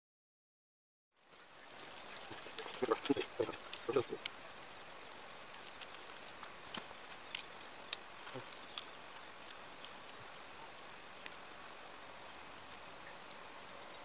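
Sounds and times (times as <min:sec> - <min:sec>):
faint steady hiss: 0:01.2 - 0:14.0.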